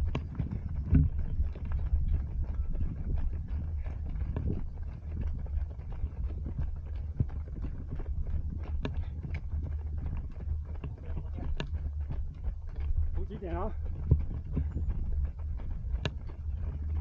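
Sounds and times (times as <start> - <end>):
runners footfalls: 0.0 - 17.0
wind rumble: 0.0 - 17.0.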